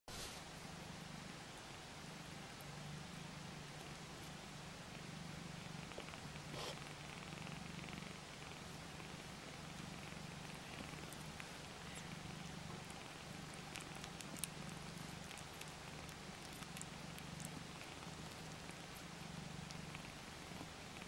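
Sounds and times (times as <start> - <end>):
cat purring faintly: 0.1 - 21.0.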